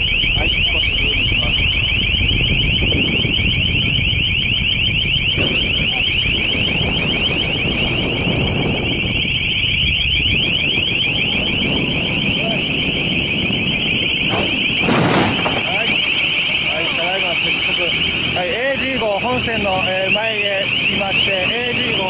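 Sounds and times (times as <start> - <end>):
electronic alarm sweeps: 0.0 - 22.0
low rumble of wind sea and engine: 0.0 - 22.0.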